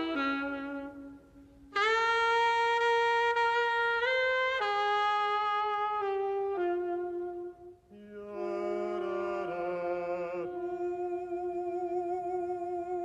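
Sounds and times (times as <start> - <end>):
saxophone slow melody: 0.0 - 13.0.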